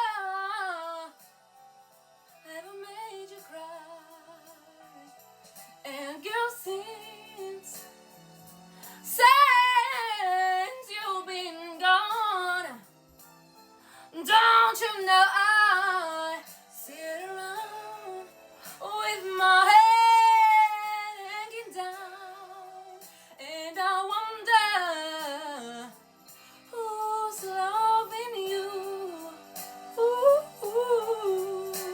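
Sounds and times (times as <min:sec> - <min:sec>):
woman singing soul ballad: 0:00.0 - 0:01.3, 0:02.4 - 0:08.1, 0:08.7 - 0:12.9, 0:13.9 - 0:31.9.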